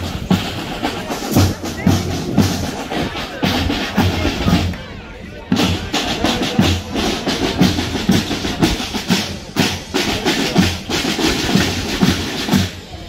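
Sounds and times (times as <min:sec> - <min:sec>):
marching band snare drum: 0:00.0 - 0:04.8, 0:05.5 - 0:13.0
marching band bass drum: 0:00.0 - 0:04.9, 0:05.5 - 0:13.0.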